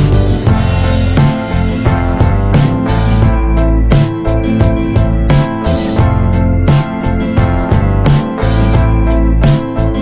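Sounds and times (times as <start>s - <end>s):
music with guitar and drums: 0.0s - 10.0s.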